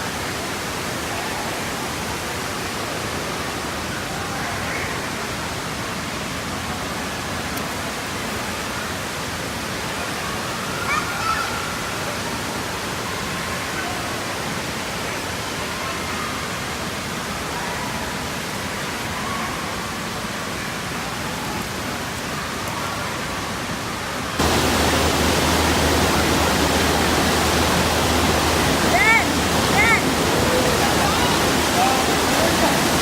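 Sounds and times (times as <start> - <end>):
rushing water hiss: 0.0 - 33.0.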